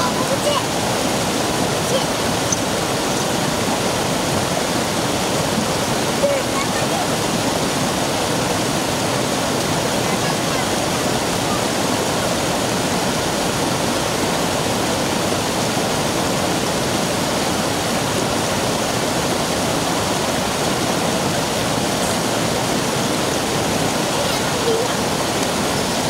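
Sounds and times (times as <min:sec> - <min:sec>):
stream water rushing over rock: 0:00.0 - 0:26.0.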